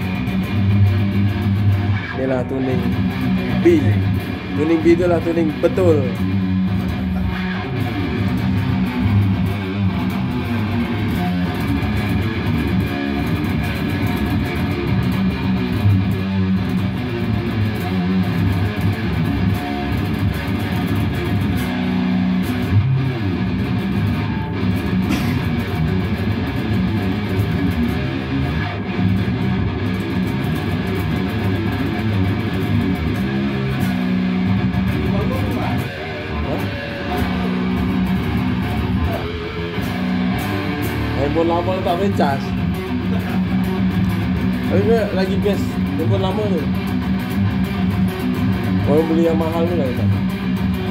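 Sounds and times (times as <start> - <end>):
electric guitar heavy metal riffs: 0.0 - 50.9.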